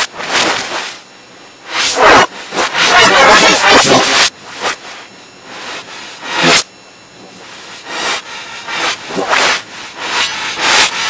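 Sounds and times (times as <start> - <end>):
distorted noise bursts: 0.0 - 11.0.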